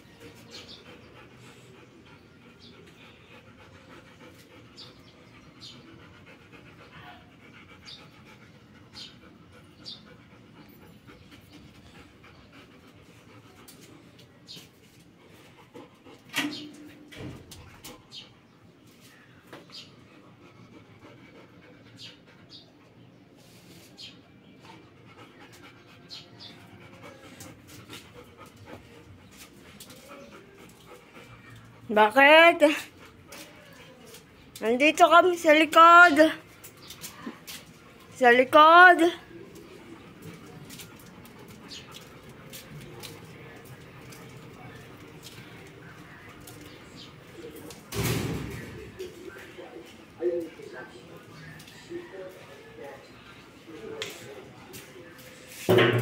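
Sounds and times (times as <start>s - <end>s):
dog panting: 0.0s - 16.6s, 17.2s - 47.9s.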